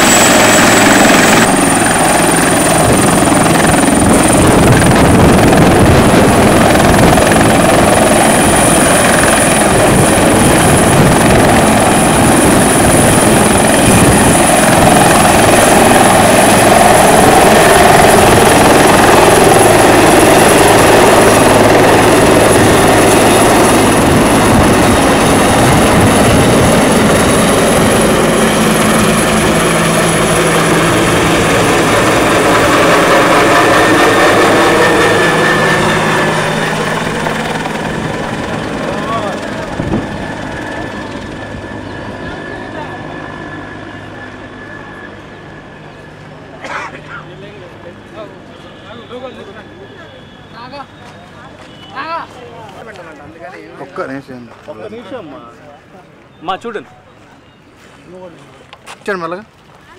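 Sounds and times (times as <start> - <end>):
helicopter taking off: 0.0 - 54.2.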